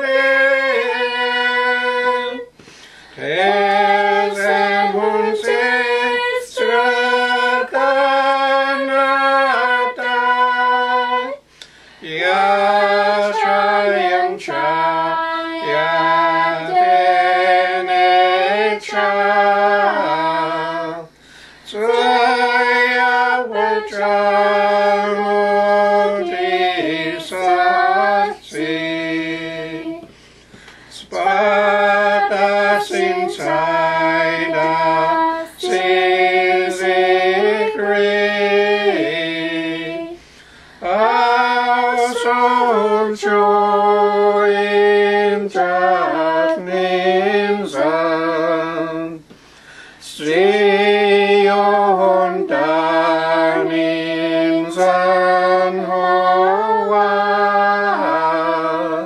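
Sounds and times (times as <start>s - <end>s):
group singing a hymn unaccompanied: 0.0s - 59.0s.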